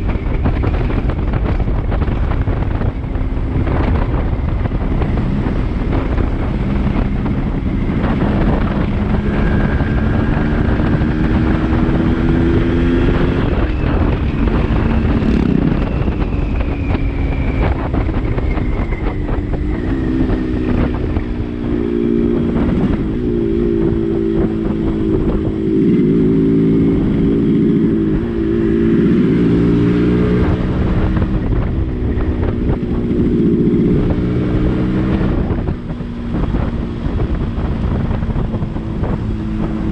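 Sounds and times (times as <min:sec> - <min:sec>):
two-stroke motorcycle engine revving: 0:00.0 - 0:16.4, 0:17.4 - 0:39.9
wind buffeting microphone: 0:00.0 - 0:39.9.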